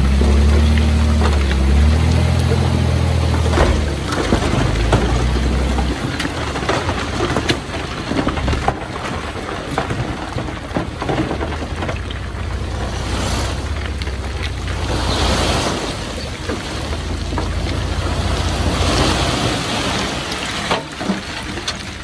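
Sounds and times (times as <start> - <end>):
heavy diesel engine running: 0.0 - 22.0
knocks and clatter: 0.0 - 22.0.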